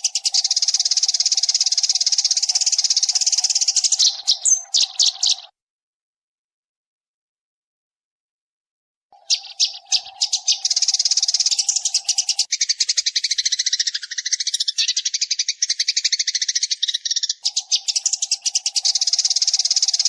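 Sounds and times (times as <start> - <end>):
sparrows chirping: 0.0 - 5.6, 9.1 - 20.0.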